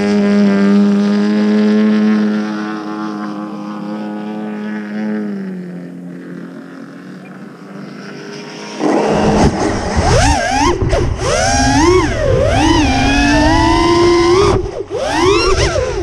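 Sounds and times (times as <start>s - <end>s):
model plane engine running: 1.8s - 16.0s.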